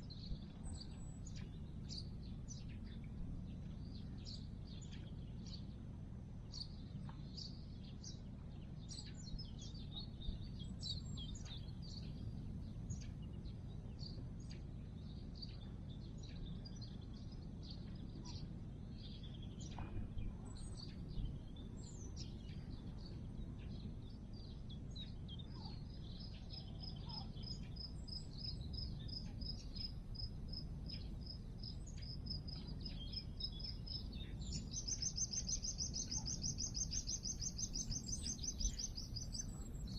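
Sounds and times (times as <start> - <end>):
low background rumble: 0.0 - 39.9
small birds singing and chirping: 0.0 - 39.9.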